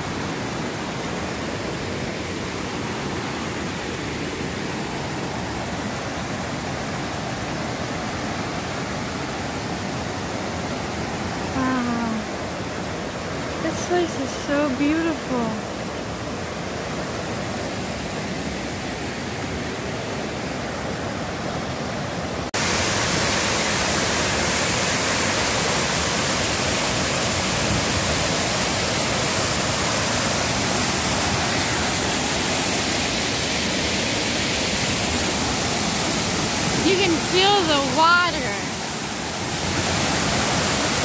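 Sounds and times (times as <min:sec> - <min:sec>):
creek water rushing over rocks: 0:00.0 - 0:41.0
waterfall rushing: 0:00.0 - 0:41.0.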